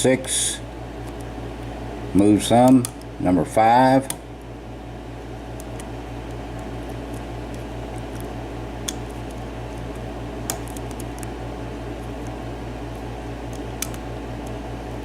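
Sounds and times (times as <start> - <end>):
rapidly pulsing hum: 0.0 - 15.0.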